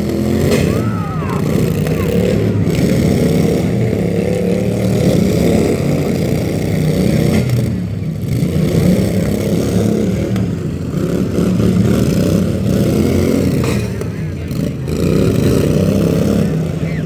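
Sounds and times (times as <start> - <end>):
loud engine running: 0.0 - 17.0.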